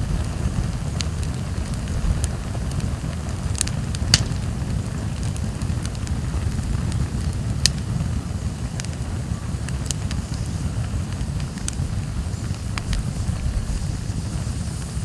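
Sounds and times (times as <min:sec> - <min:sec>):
campfire crackles and pops: 0:00.0 - 0:15.0
low fire rumble: 0:00.0 - 0:15.0.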